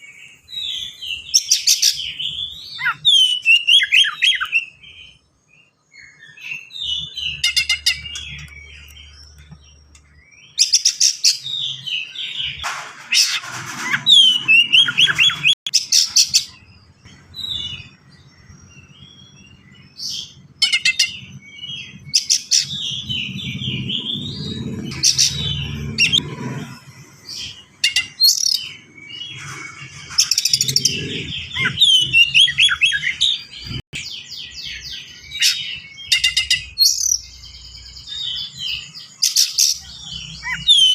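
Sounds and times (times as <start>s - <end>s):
bird singing trills: 0.0s - 40.9s.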